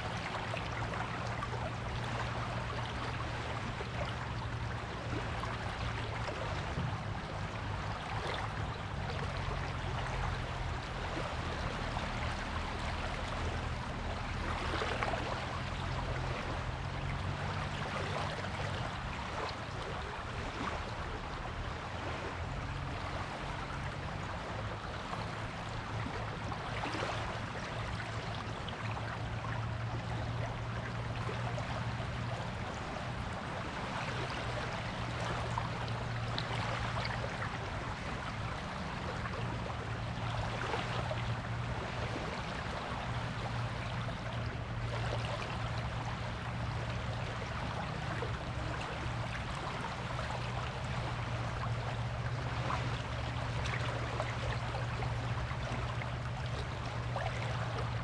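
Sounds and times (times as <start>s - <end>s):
low steady hum: 0.0s - 58.0s
waves washing on a beach: 0.0s - 58.0s.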